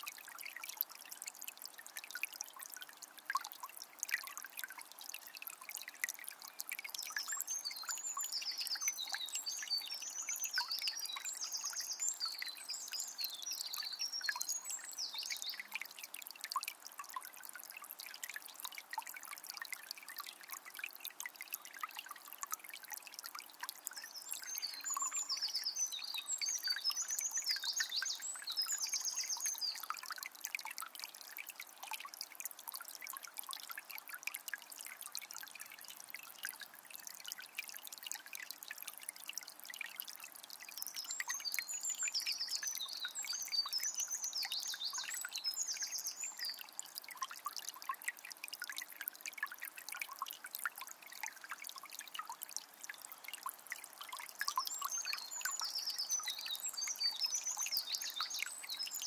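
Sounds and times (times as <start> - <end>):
river trickling and splashing: 0.0 - 59.0.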